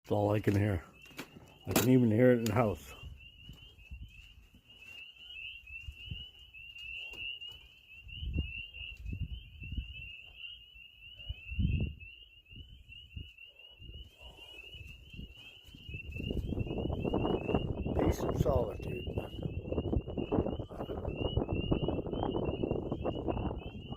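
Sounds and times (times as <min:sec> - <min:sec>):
chorus of high chirps: 0:00.1 - 0:23.9.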